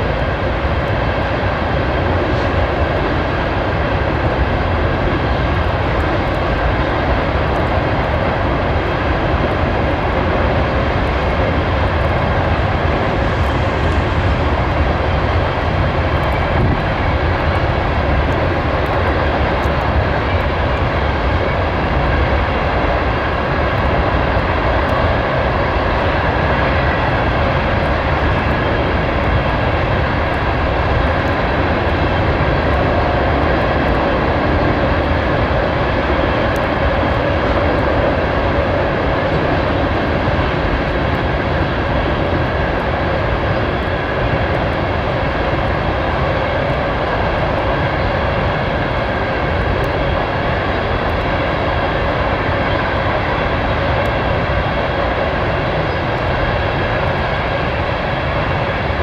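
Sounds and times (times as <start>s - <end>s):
freight train cars rumbling: 0.0s - 59.0s.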